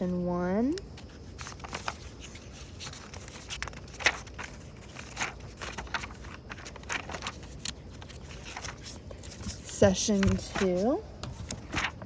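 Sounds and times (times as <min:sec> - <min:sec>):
notebook pages rustling: 0:00.6 - 0:12.0.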